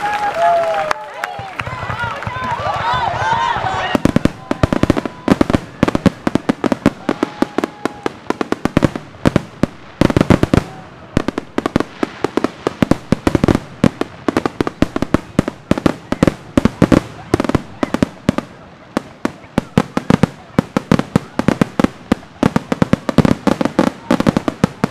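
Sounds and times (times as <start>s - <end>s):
fireworks bangs and crackles: 1.4s - 24.9s.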